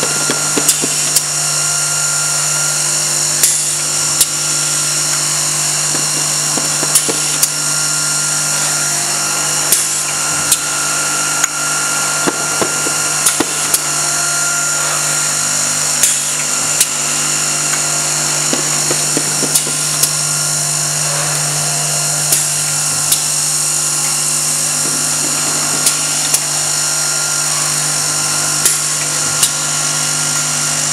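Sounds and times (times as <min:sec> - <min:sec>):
machine motor hum and whine: 0:00.0 - 0:30.9.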